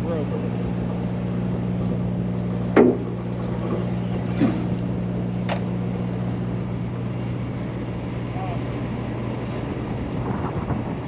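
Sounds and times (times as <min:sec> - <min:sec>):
diesel truck engine idling: 0:00.0 - 0:10.2.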